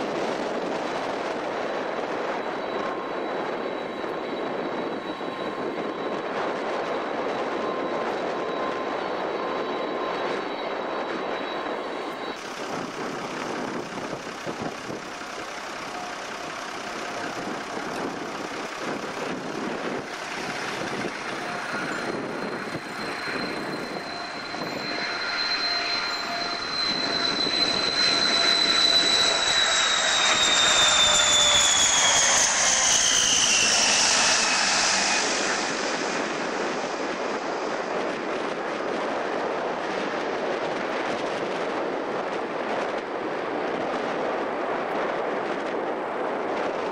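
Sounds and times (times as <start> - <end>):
jet landing roll: 0.0 - 46.9
turboprop aircraft engine drone: 0.0 - 46.9.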